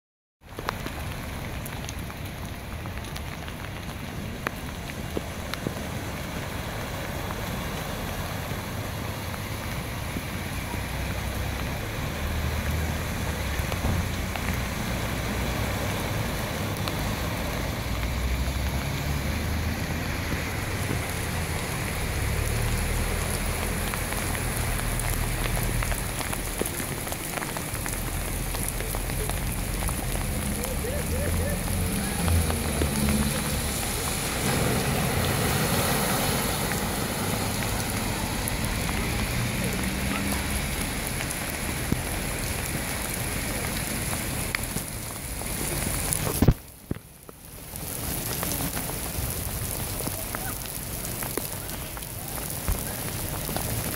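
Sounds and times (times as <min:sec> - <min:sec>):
steady rain falling: 0:00.4 - 0:53.9
car splashing through water: 0:00.5 - 0:53.9.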